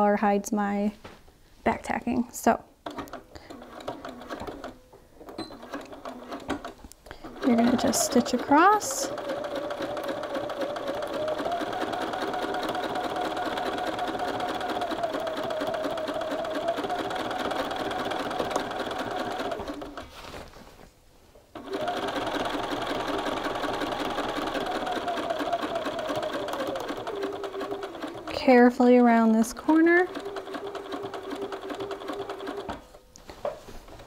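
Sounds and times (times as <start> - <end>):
sewing machine stitching: 2.8 - 20.2, 21.6 - 33.0.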